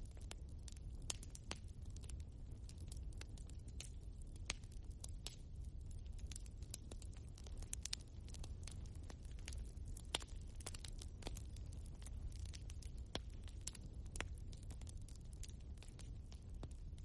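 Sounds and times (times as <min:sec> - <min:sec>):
logs crackling in fireplace: 0:00.0 - 0:17.0
low rumble of fire: 0:00.0 - 0:17.0
sharp snaps of fire: 0:00.0 - 0:17.0.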